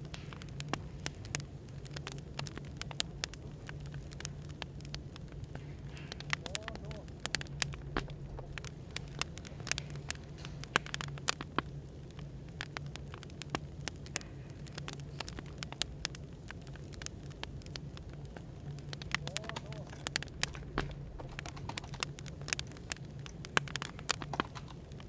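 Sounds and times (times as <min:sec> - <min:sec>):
low background hum: 0:00.0 - 0:25.0
wood fire crackling and popping: 0:00.0 - 0:25.0.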